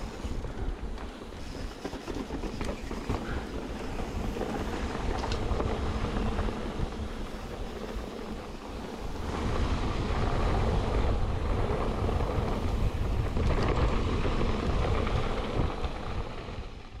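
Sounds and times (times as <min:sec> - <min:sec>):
bike rattling over bumps: 0:00.0 - 0:17.0
bike tyres and frame rumbling: 0:00.0 - 0:17.0
wind buffeting microphone: 0:00.0 - 0:17.0.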